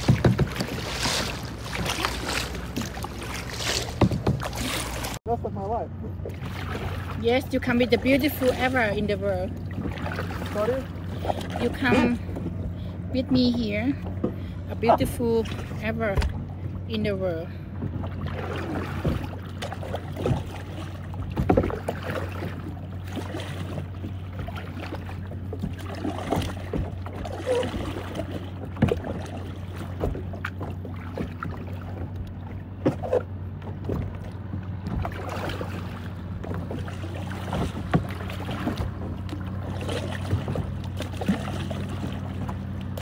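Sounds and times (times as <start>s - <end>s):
boat engine humming: 0.0s - 43.0s
water splashing against hull: 0.0s - 43.0s.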